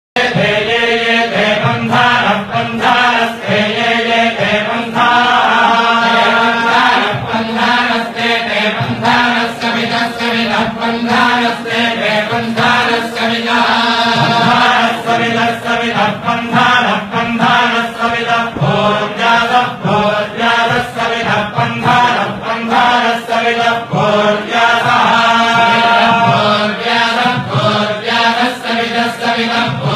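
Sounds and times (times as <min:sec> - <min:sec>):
voices chanting: 0:00.2 - 0:29.9.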